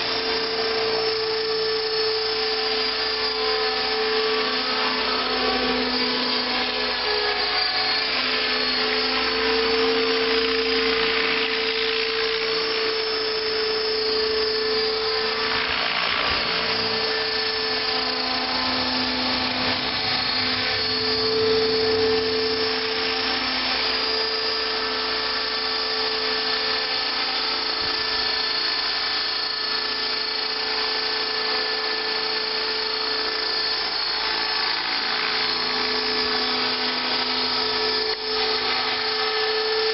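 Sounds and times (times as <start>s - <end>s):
electric motor whine: 0.0s - 39.9s
rotor blades whirring: 0.0s - 39.9s.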